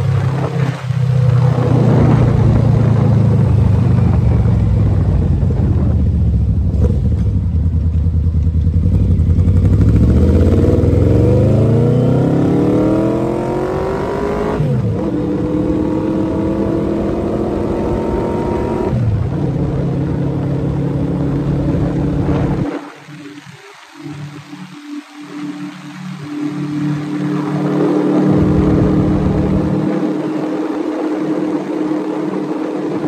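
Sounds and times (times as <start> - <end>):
wind rushing past microphone: 0.0 - 7.6, 9.6 - 24.7, 25.7 - 33.0
motorcycle engine accelerating: 0.0 - 23.4, 24.1 - 33.0.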